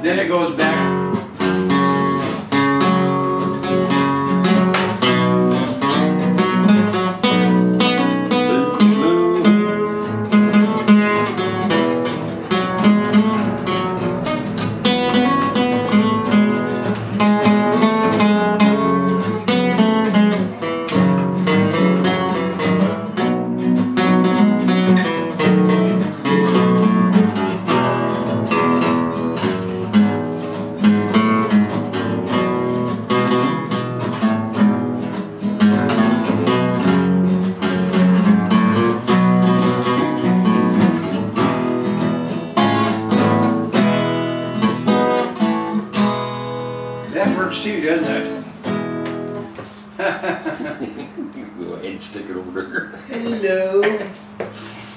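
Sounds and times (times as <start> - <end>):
acoustic guitars playing: 0.0 - 54.9.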